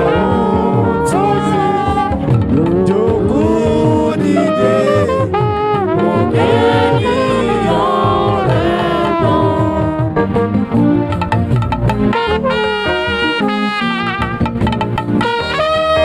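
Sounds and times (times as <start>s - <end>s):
band with brass and saxophone: 0.0s - 16.0s
moving bass line: 0.0s - 16.0s.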